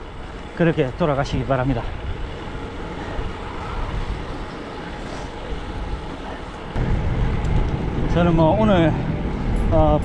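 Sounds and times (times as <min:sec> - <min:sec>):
bicycle road noise: 0:00.0 - 0:10.0
wind rush: 0:00.0 - 0:10.0.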